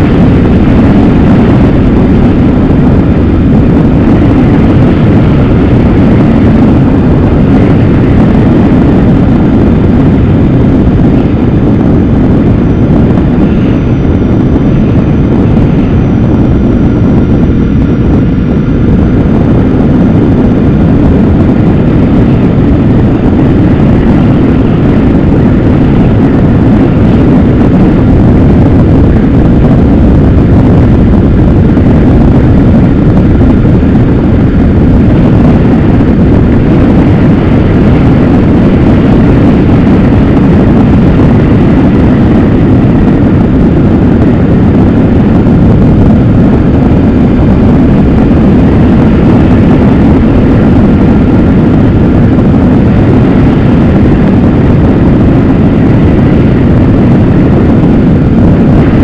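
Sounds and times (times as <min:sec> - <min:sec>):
vehicle engine and tyre noise: 0:00.0 - 0:59.0
wind rush on microphone: 0:00.0 - 0:59.0.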